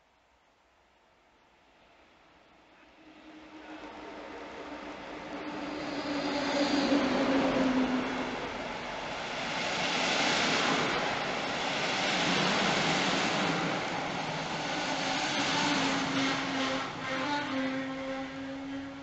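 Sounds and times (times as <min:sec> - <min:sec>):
train wheels on rails: 0:03.6 - 0:19.0.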